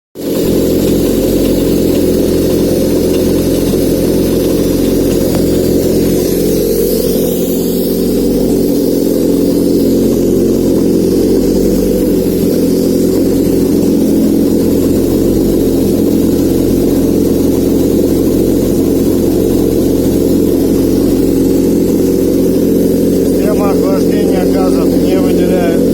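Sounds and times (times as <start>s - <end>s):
car engine idling: 0.2s - 25.9s.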